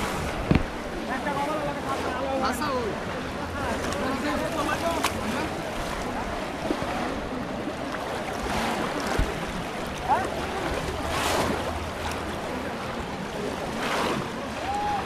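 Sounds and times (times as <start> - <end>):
water sloshing around wading people: 0.0 - 15.0.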